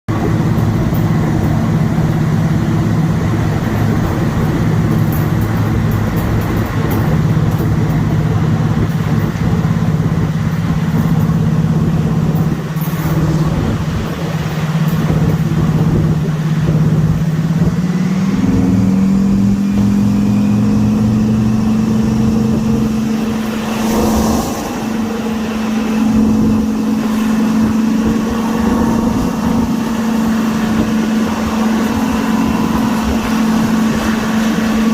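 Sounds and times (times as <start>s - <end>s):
diesel locomotive engine thrashing: 0.1s - 34.9s.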